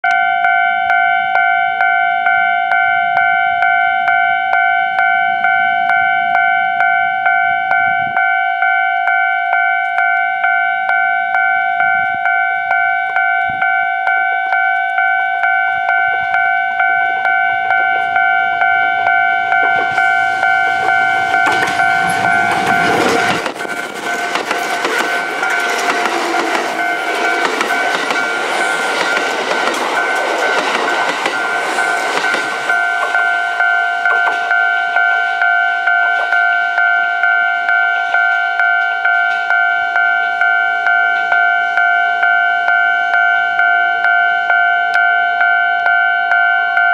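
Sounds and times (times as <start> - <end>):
level-crossing warning bell: 0.0 - 46.9
train passing on rails: 2.8 - 8.4, 11.8 - 44.5.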